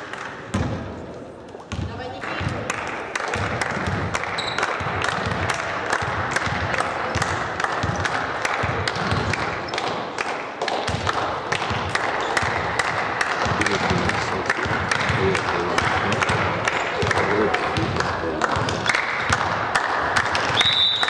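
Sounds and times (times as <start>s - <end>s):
sports hall noise: 0.0s - 21.0s
volleyballs smacking and bouncing: 0.0s - 21.0s.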